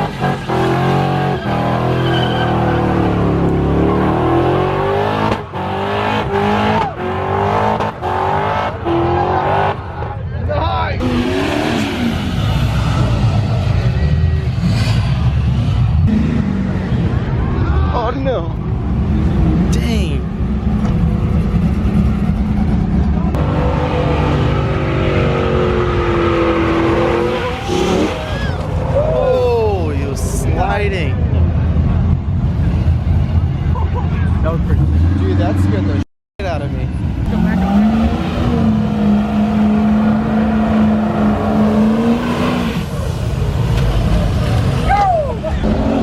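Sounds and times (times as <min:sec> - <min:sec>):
car engine revving: 0:00.0 - 0:29.4, 0:34.2 - 0:46.0.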